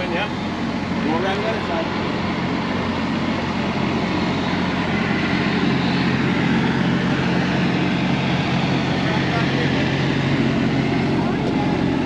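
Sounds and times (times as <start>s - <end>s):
street noise: 0.0s - 12.0s
truck engine humming: 0.0s - 12.0s.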